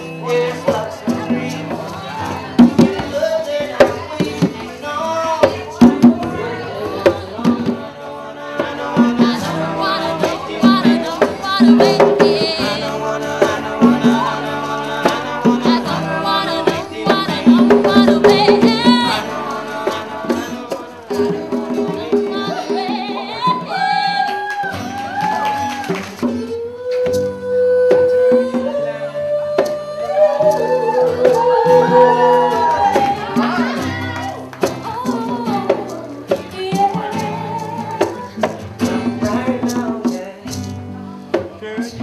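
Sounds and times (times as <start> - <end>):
conga drums: 0.0 - 42.0
strummed acoustic guitars: 0.0 - 42.0
woman singing into microphone: 5.4 - 41.6.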